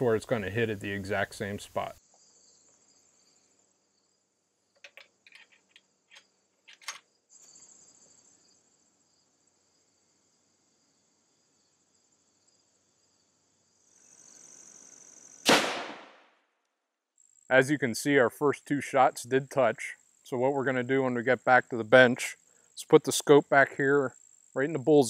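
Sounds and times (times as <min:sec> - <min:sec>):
insects buzzing: 0:00.0 - 0:16.2, 0:17.1 - 0:25.0.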